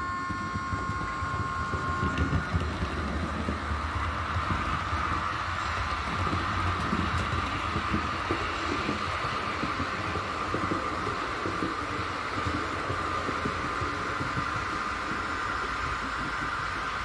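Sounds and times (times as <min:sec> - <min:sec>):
model train motor whine: 0:00.0 - 0:17.0
wheels clattering on rails: 0:00.0 - 0:17.0.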